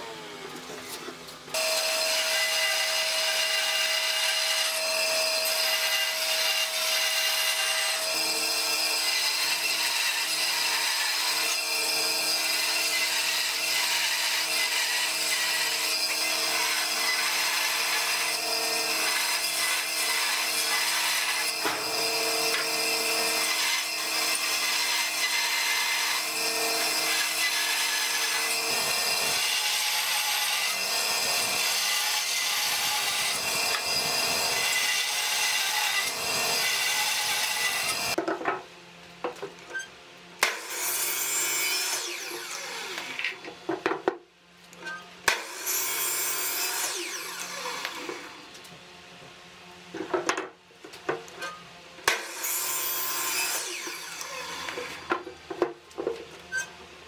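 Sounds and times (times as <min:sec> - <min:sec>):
electric power tool cutting wood: 0:00.0 - 0:38.2, 0:40.4 - 0:43.5, 0:45.3 - 0:48.5, 0:52.0 - 0:55.3.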